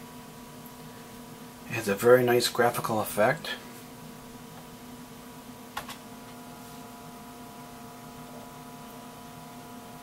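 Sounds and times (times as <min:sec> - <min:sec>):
computer and monitor hum: 0:00.0 - 0:10.0.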